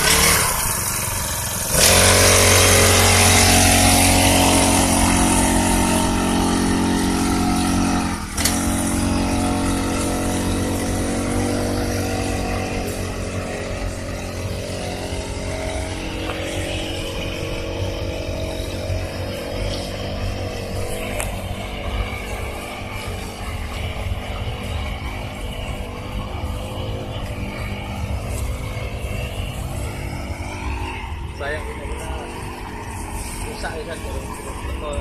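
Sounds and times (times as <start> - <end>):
small engine running hard: 0.0 - 35.0.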